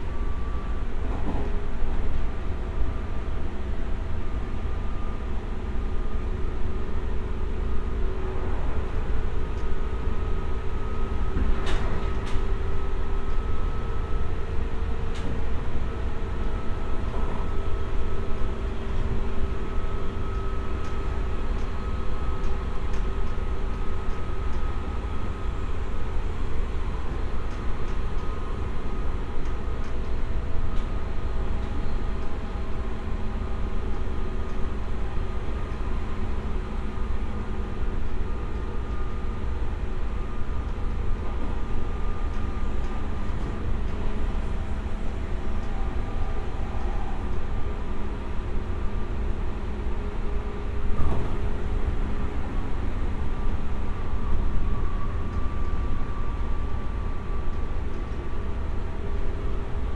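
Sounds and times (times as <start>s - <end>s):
train running gear hum: 0.0s - 59.9s
train wheels rumbling on rails: 0.0s - 59.9s.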